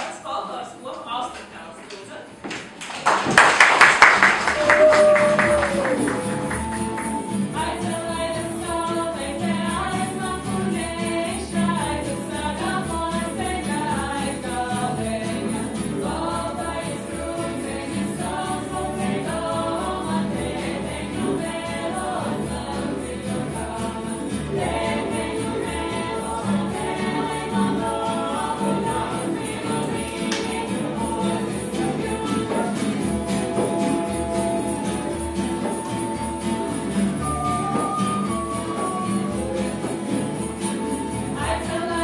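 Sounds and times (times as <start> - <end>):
women singing folk song: 4.8 - 42.0
jingling bells: 4.9 - 42.0.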